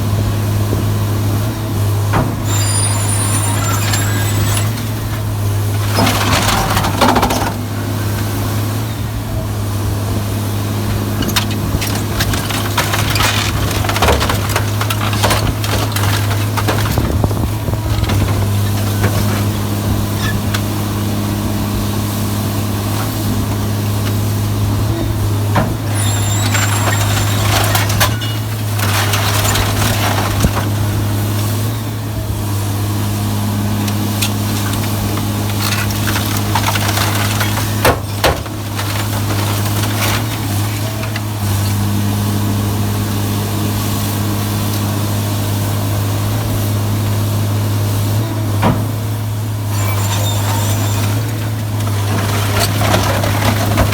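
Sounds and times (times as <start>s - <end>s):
scrap metal grinding and crunching: 0.0s - 53.9s.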